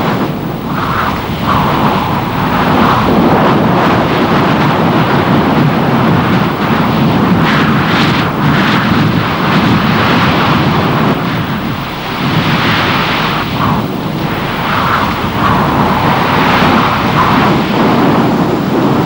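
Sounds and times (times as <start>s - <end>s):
loud storm wind: 0.0s - 19.0s.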